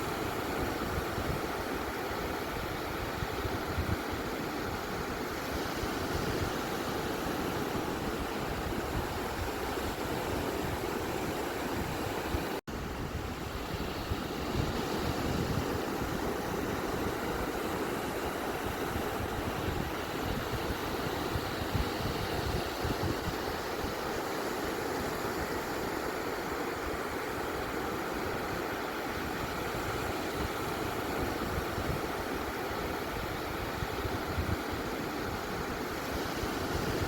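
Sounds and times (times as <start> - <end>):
ocean surf on a beach: 0.0 - 37.0.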